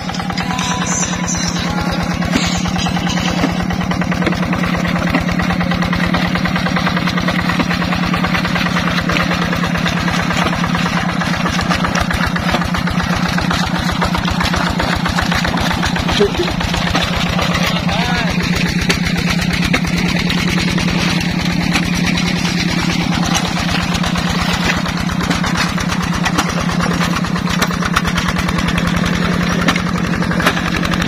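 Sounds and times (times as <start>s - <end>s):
diesel engine chugging: 0.0s - 31.0s.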